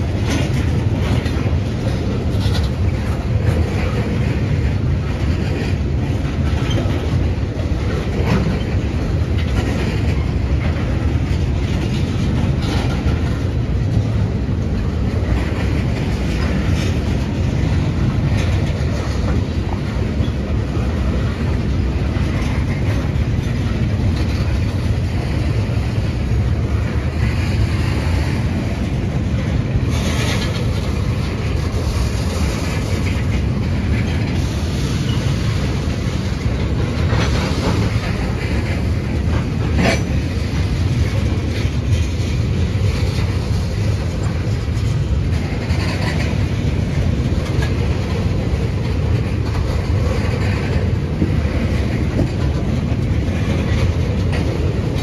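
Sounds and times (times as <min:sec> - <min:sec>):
steel wheels rumbling on rail: 0:00.0 - 0:55.0
wheels clicking and clacking: 0:00.0 - 0:55.0.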